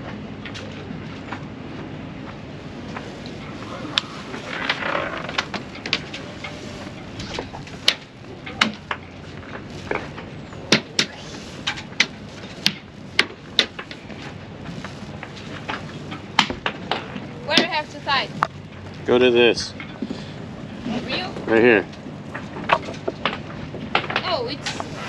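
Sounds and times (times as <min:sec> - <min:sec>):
rush of wind: 0:00.0 - 0:25.0.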